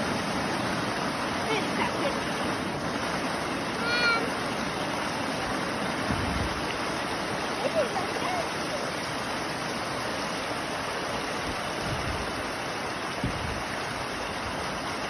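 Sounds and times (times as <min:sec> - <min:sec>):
water gushing onto dirt: 0:00.0 - 0:15.0.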